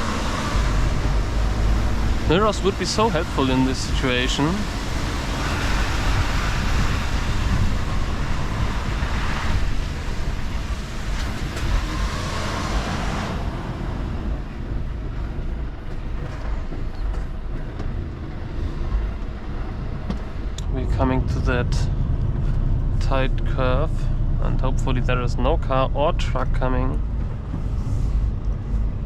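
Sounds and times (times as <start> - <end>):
truck diesel engine driving: 0.0 - 29.0.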